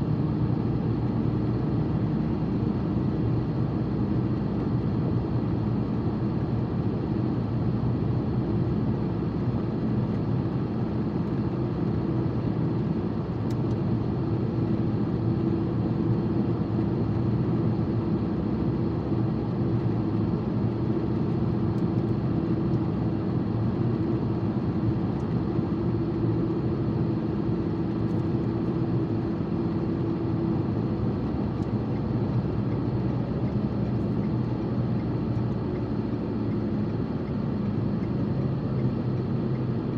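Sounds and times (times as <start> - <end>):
road and engine drone in car: 0.0 - 39.9.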